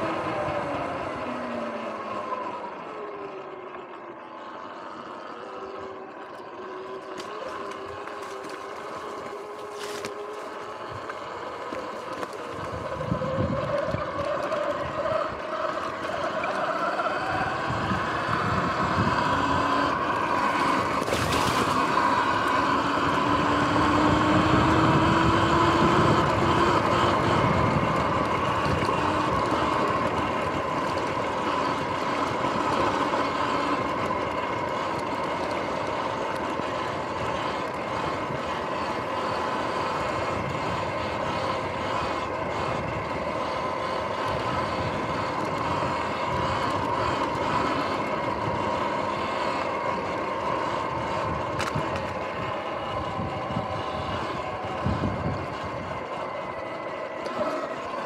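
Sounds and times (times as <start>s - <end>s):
electric motor whine: 0.0s - 58.0s
tyre and wind noise: 6.6s - 58.0s.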